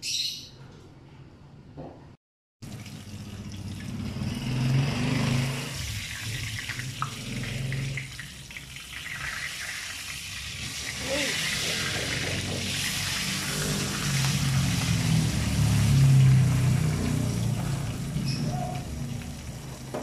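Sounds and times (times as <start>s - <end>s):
fish frying in hot oil: 2.6s - 20.0s.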